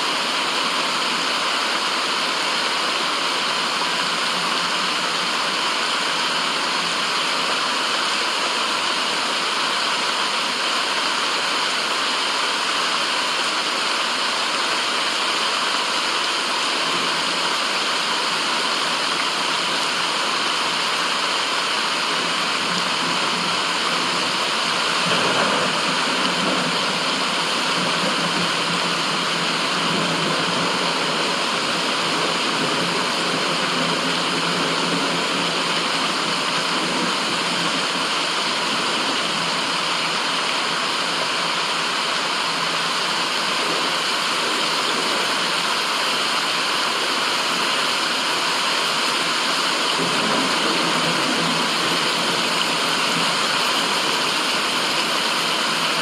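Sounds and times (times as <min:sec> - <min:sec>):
white noise: 0:00.0 - 0:56.0.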